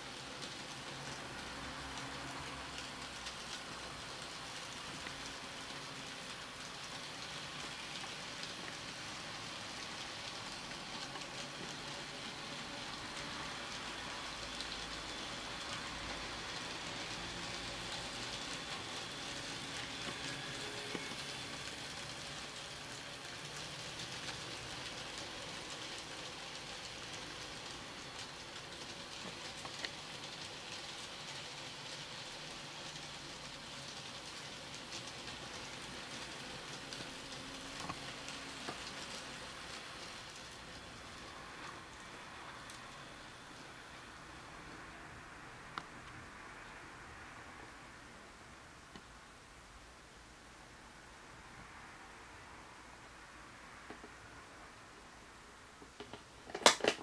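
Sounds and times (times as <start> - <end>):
model train wheels rolling on rails: 0.0 - 47.8, 55.7 - 57.0.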